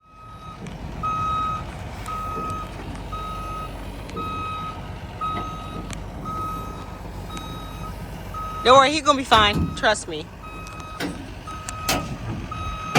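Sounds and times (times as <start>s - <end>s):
diesel engine rumble: 0.0s - 12.9s
excavator travel alarm beeping: 0.0s - 12.9s.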